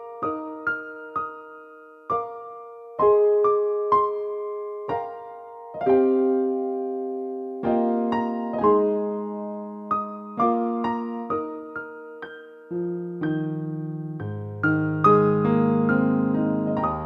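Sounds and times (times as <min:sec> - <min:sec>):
slow piano notes and chords: 0:00.0 - 0:17.0.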